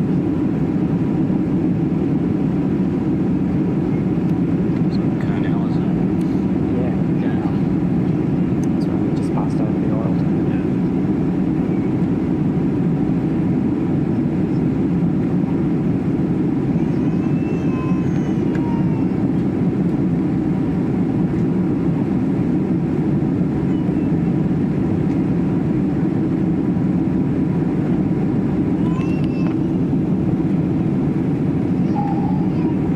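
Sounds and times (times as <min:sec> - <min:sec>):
airliner cabin roar: 0:00.0 - 0:32.9.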